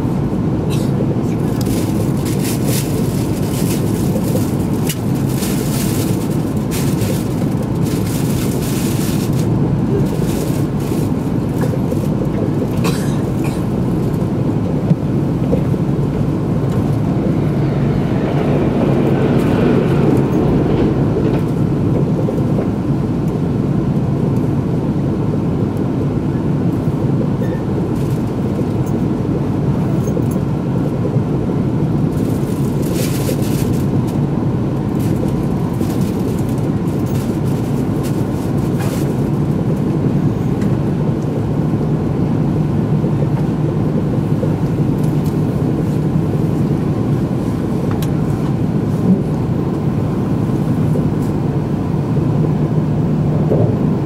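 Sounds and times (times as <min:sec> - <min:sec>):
passing train: 0:00.0 - 0:54.0
train cabin rumble: 0:00.0 - 0:54.0.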